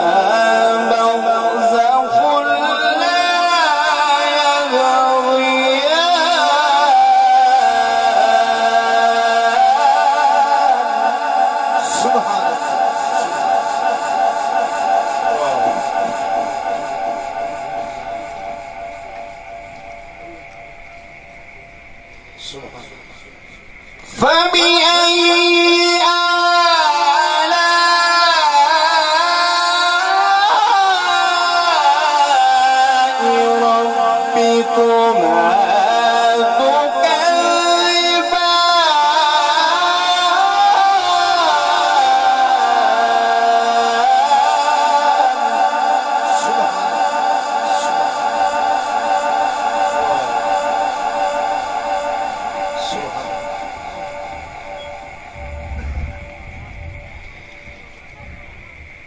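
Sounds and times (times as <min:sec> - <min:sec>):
man reciting melodically: 0:00.0 - 0:19.3, 0:22.3 - 0:56.4.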